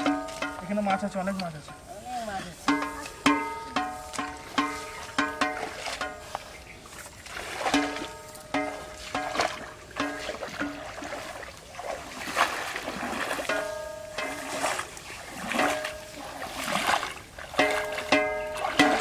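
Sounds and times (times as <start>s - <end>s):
feet wading through muddy water: 0.0s - 19.0s.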